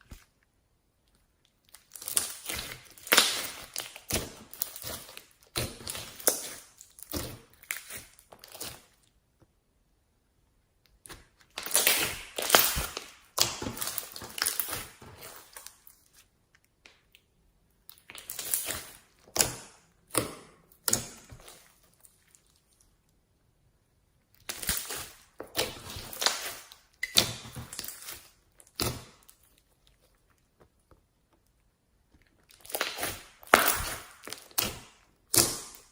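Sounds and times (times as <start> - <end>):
slime crackling and popping: 1.4 - 9.0, 10.9 - 17.2, 17.8 - 22.8, 24.3 - 35.9.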